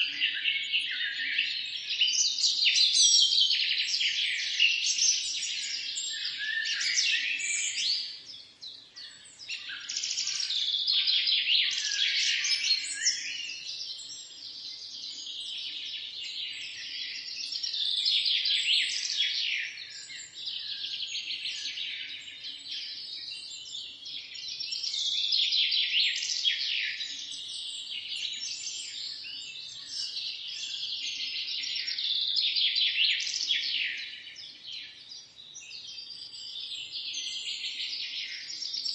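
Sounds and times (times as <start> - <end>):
small birds chirping chorus: 0.0 - 38.9.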